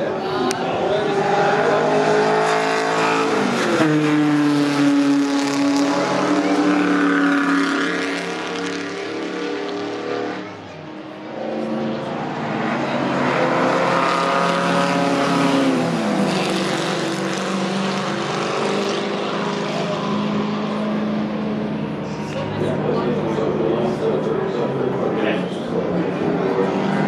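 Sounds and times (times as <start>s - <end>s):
racing car engines passing: 0.0s - 27.0s.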